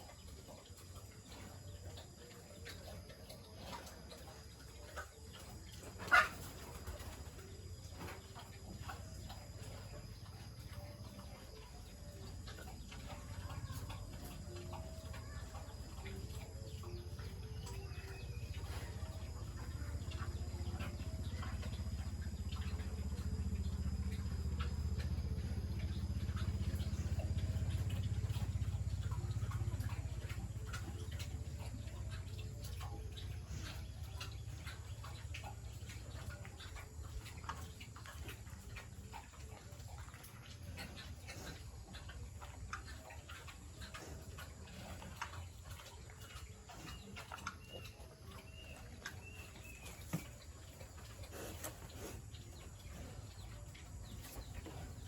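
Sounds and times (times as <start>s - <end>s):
chickens clucking: 0.0s - 55.0s
small birds chirping: 0.0s - 55.0s.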